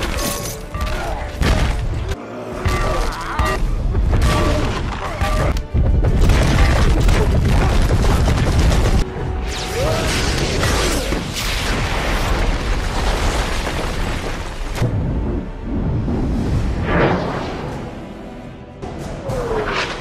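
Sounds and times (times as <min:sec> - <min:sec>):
orchestral film score: 0:00.0 - 0:13.0, 0:14.5 - 0:20.0.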